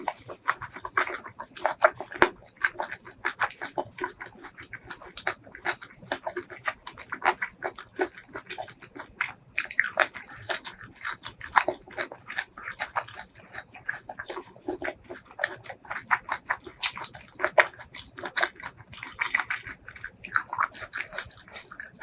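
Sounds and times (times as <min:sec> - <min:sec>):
close-up chewing and smacking: 0:00.0 - 0:22.0.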